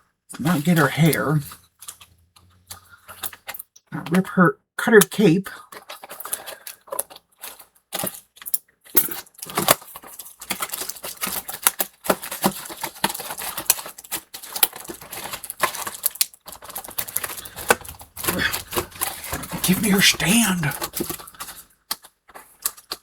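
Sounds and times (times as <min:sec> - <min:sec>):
plastic packaging clicking and crinkling: 0:00.3 - 0:03.9, 0:05.5 - 0:23.0.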